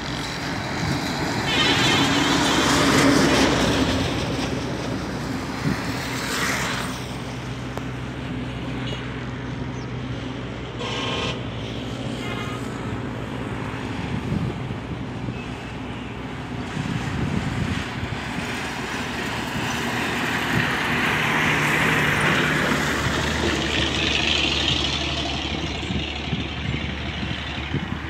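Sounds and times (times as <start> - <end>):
highway traffic noise: 0.0 - 28.0
truck passing close by: 0.0 - 28.0.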